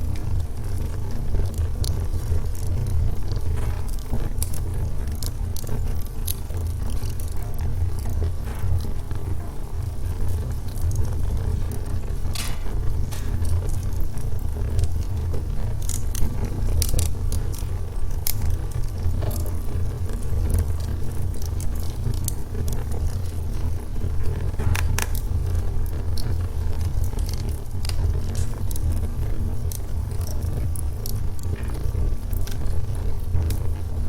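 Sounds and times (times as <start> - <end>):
burning logs crackling: 0.0 - 34.0.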